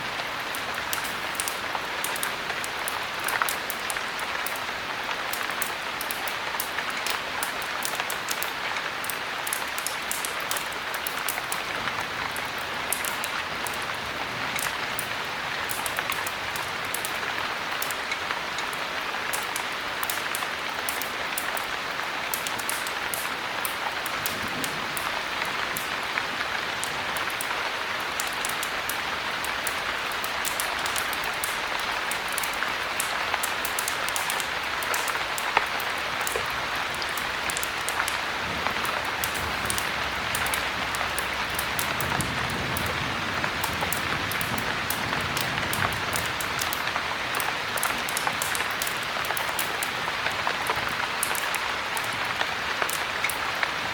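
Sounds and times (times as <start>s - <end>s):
heavy rain: 0.0s - 53.9s
wood fire crackling: 0.0s - 53.9s.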